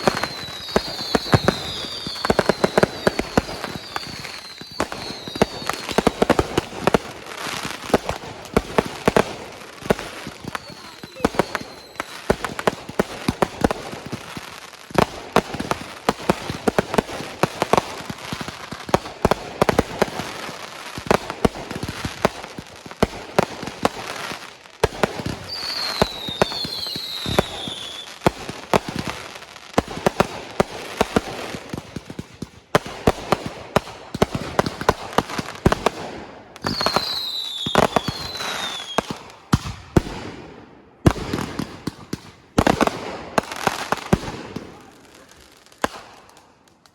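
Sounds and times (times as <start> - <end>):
fireworks cracking and banging: 0.0 - 46.9.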